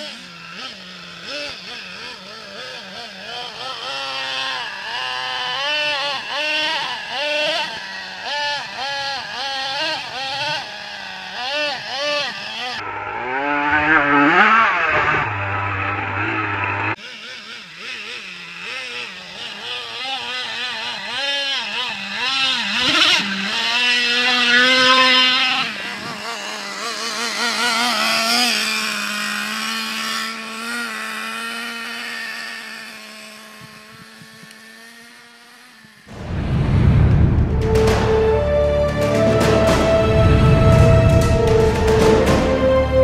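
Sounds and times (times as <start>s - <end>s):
small nitro engine revving: 0.0s - 36.8s.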